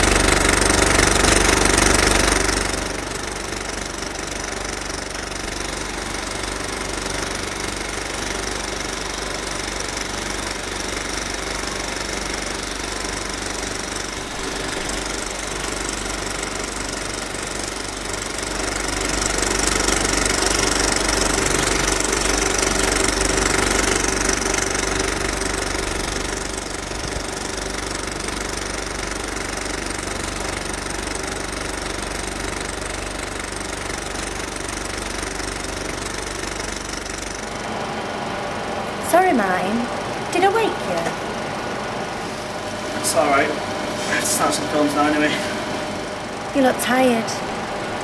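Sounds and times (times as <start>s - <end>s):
film projector clattering: 0.0s - 39.2s, 40.0s - 48.0s
projector hum: 0.0s - 48.0s.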